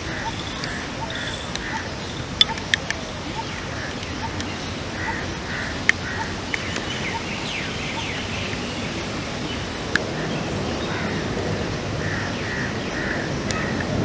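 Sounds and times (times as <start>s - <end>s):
birds calling: 0.0s - 14.0s
steady rain falling: 0.0s - 14.0s.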